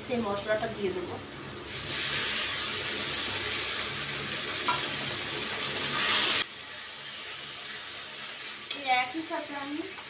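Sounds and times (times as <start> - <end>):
paste sizzling in hot oil: 0.3 - 10.0.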